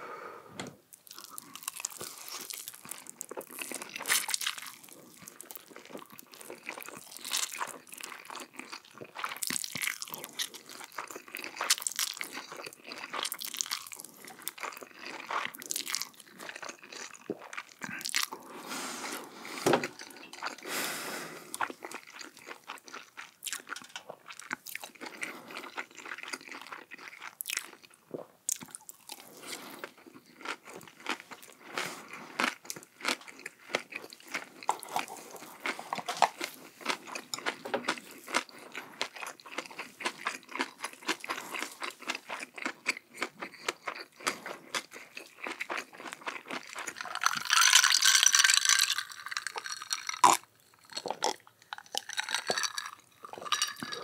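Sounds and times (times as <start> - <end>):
crunchy food chewing: 1.0 - 18.6, 21.4 - 54.0.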